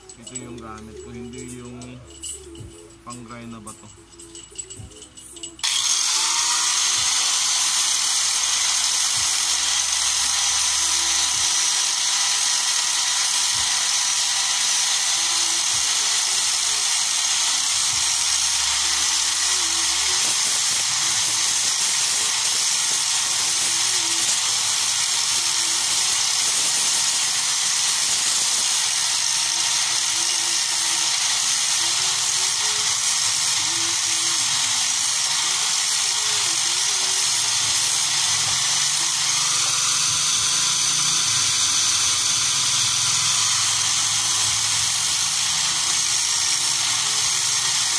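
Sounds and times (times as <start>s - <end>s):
angle grinder grinding steel: 0.0s - 47.9s.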